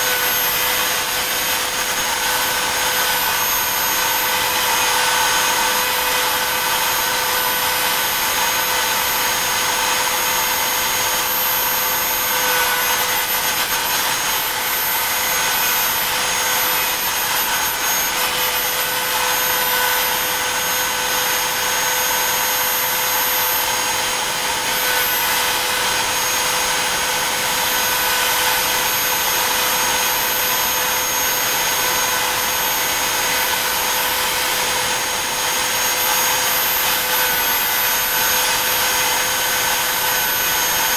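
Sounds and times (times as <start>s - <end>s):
hiss of wood cutting: 0.0s - 40.9s
router spindle whining: 0.0s - 40.9s.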